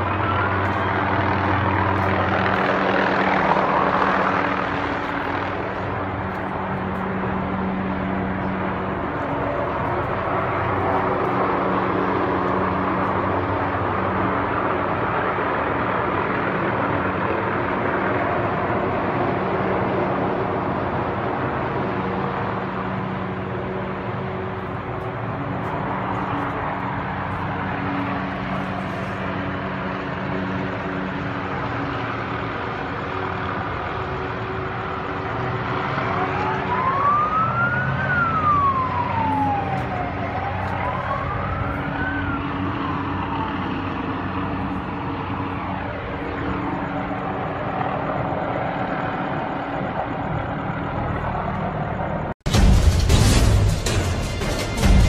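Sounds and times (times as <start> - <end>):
police siren wailing: 0.0 - 52.3
hum of engines and traffic: 0.0 - 55.0.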